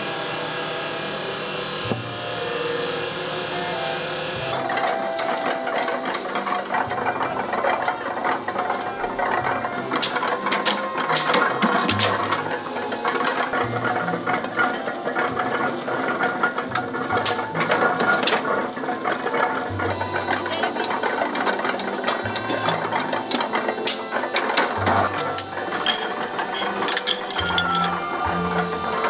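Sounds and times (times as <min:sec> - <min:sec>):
factory machinery running: 0:00.0 - 0:29.0.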